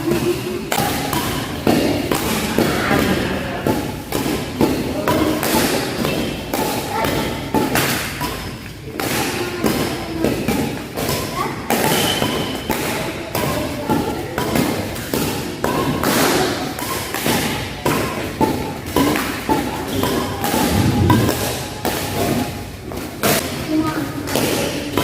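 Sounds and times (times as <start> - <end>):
rackets hitting shuttlecock: 0.0 - 23.6.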